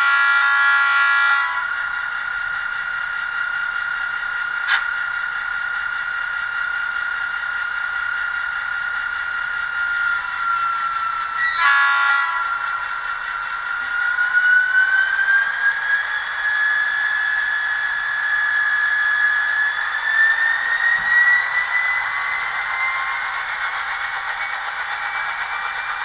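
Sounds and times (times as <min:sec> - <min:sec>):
diesel locomotive engine sound: 0:00.0 - 0:26.0.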